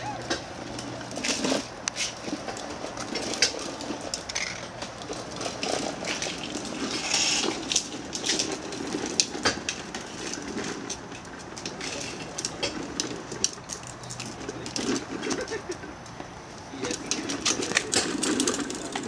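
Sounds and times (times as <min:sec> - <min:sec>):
plastic wheels rolling on concrete: 0:00.0 - 0:19.0.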